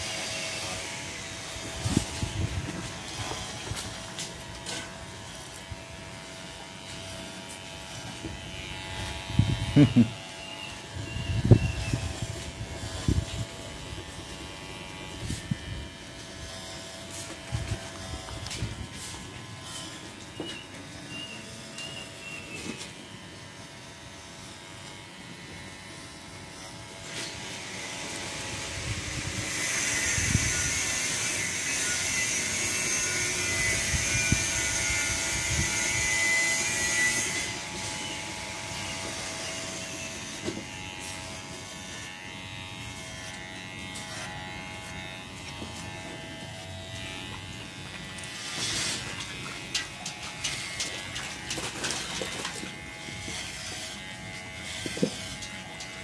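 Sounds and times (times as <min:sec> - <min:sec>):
electric clippers humming: 0:00.0 - 0:56.0.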